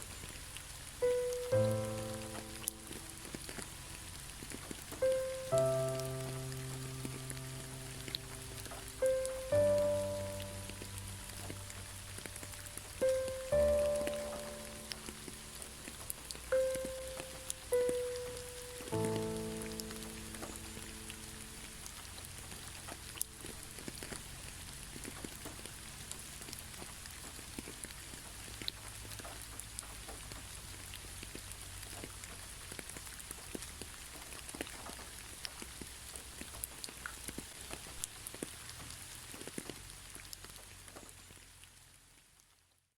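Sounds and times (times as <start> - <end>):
raindrop ticks: 0.0 - 42.5
rain falling: 0.0 - 42.8.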